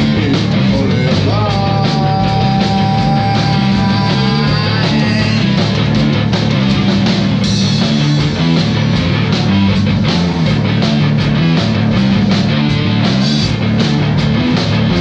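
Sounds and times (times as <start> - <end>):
drum kit playing: 0.0 - 15.0
rock band with electric guitars: 0.0 - 15.0.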